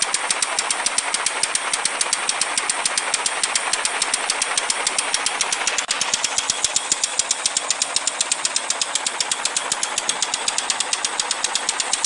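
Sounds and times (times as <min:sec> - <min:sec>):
model engine exhaust chuffing: 0:00.0 - 0:12.0.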